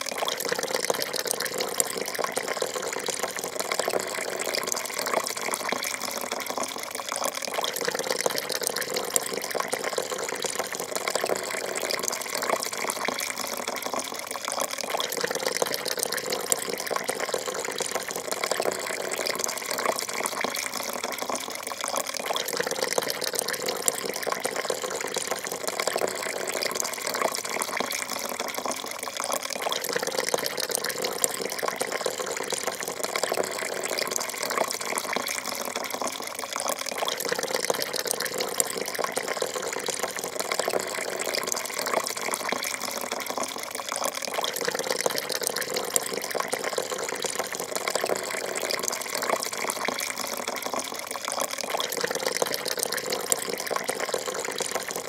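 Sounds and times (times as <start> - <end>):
coffee pouring into a cup: 0.0 - 55.0.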